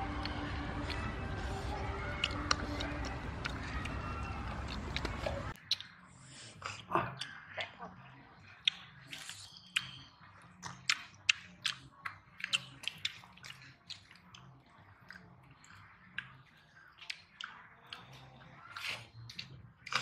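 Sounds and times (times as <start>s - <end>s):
chewing: 0.0s - 20.0s
faint low hum: 0.0s - 20.0s
wet clicks and smacks of eating: 0.1s - 20.0s.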